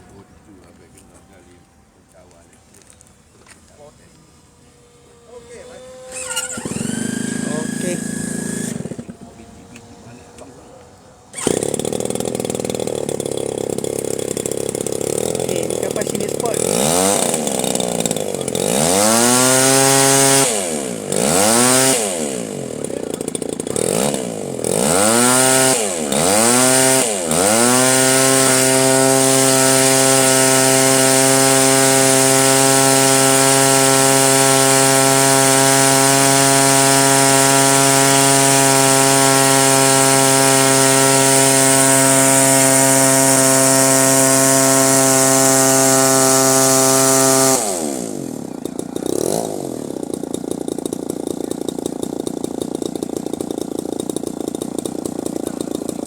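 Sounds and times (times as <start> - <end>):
model airplane engine revving: 0.0 - 56.0.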